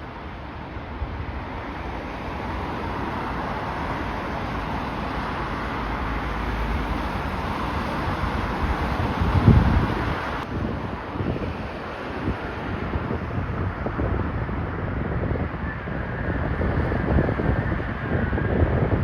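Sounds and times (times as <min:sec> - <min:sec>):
jet airliner engine noise: 0:00.0 - 0:19.0
wind buffeting microphone: 0:02.2 - 0:19.0.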